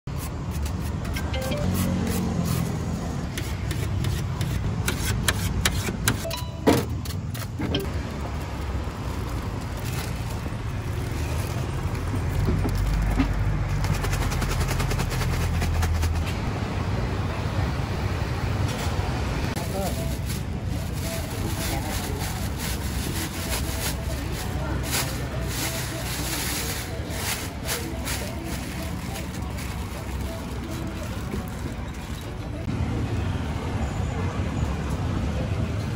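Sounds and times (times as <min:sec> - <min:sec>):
low rumble of motor traffic: 0:00.1 - 0:35.9
vehicles passing: 0:00.1 - 0:35.9.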